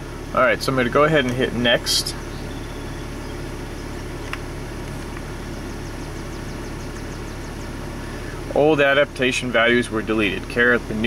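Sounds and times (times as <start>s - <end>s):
car interior low hum: 0.0s - 11.0s.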